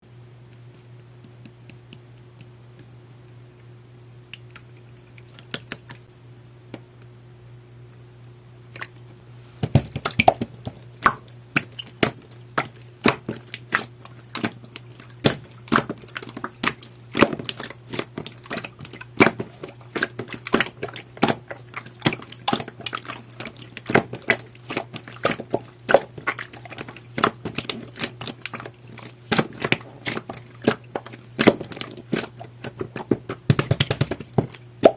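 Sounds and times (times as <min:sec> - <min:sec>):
low steady hum: 0:00.1 - 0:34.9.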